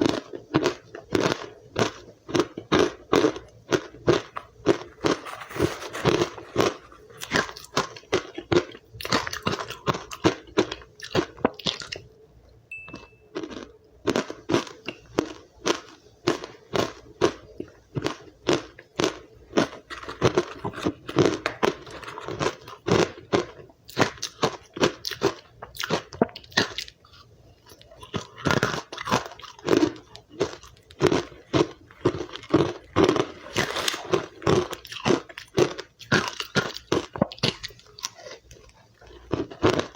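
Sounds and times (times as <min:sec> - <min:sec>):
chewing crunchy ice: 0:00.0 - 0:12.1, 0:13.4 - 0:39.9.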